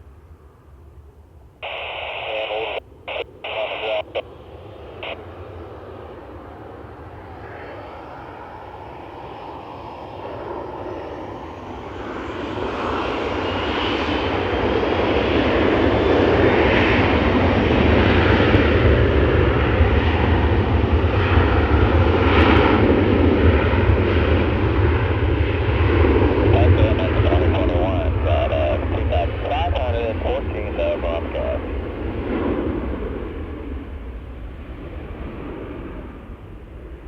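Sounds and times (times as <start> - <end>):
airplane engines: 0.0 - 37.0.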